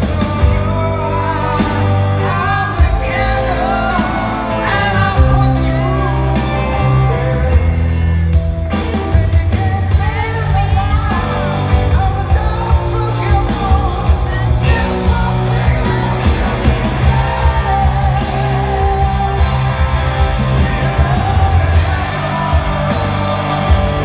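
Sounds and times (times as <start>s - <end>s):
bass guitar: 0.0s - 24.0s
drums: 0.0s - 24.0s
electric guitar: 0.0s - 24.0s
man singing lead vocal: 0.0s - 24.0s.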